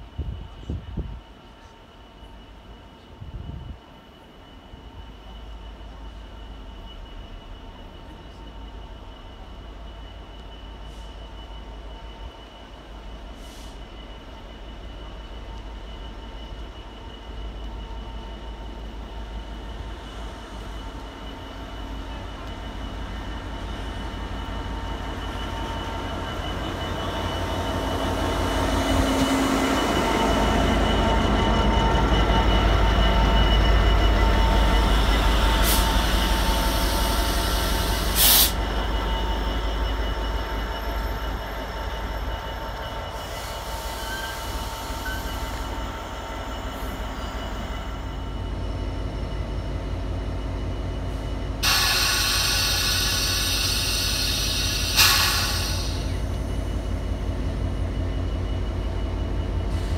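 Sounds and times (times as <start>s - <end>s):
diesel locomotive passing: 0.0s - 59.9s.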